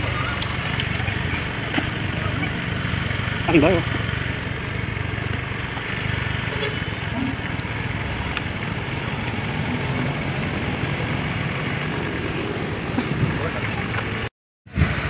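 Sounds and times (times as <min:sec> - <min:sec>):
scooter engine idling: 0:00.0 - 0:14.3.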